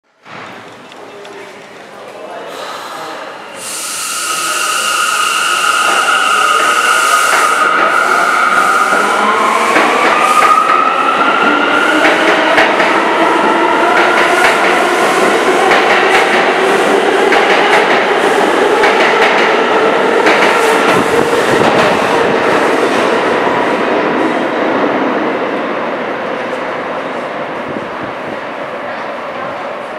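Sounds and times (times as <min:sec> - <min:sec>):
subway train propulsion whine: 0:02.4 - 0:29.9.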